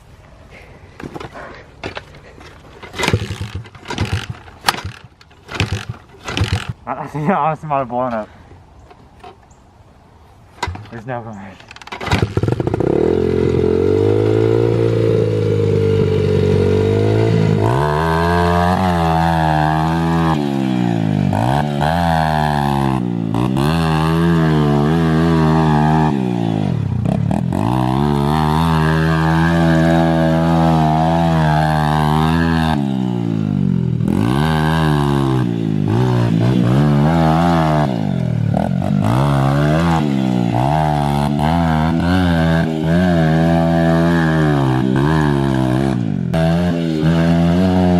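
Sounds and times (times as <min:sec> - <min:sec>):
small dirt bike engine revving: 0:01.1 - 0:07.1, 0:10.6 - 0:11.0, 0:11.6 - 0:47.9.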